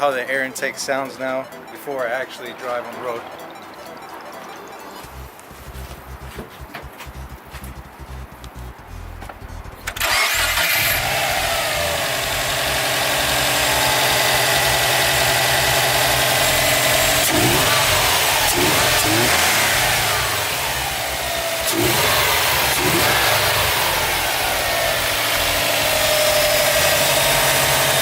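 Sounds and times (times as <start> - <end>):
car engine idling and revving: 5.0 - 28.0.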